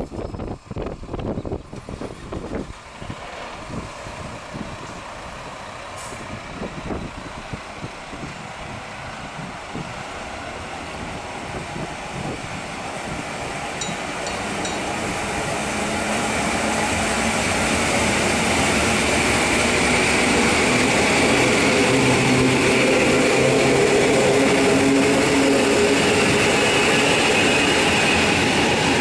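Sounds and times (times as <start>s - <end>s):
electric train approaching: 0.0s - 29.0s
wind buffeting microphone: 0.0s - 29.0s.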